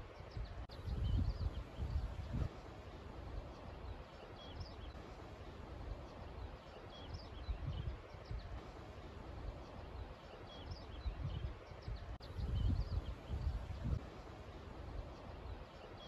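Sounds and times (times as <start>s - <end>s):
wind gusting on microphone: 0.0s - 15.7s
songbirds chirping: 0.0s - 16.0s.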